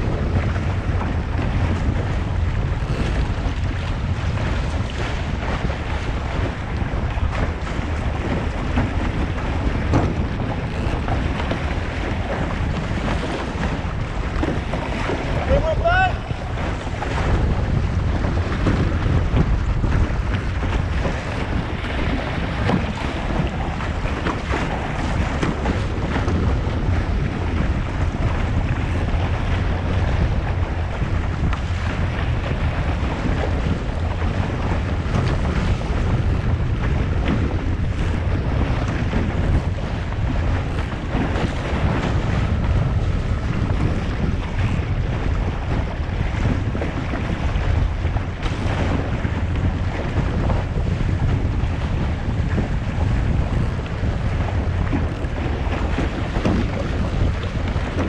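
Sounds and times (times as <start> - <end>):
water splashing along hull: 0.0 - 58.0
wind buffeting microphone: 0.0 - 58.0.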